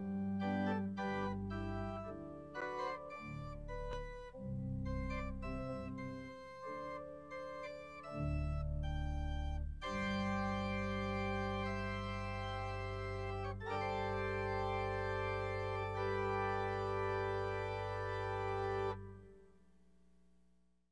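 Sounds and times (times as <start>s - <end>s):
organ playing sustained chords: 0.0s - 19.4s.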